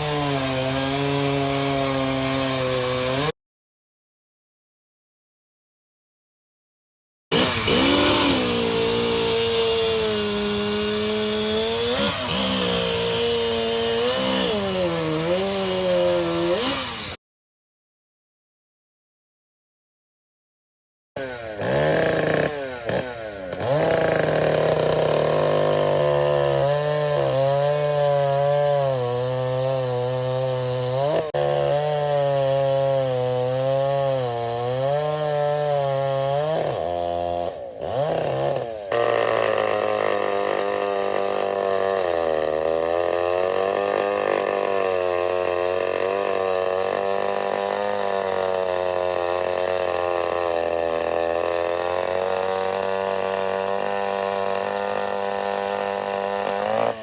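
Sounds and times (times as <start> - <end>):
chainsaw cutting wood: 0.0 - 3.4, 7.3 - 17.2, 21.2 - 57.0.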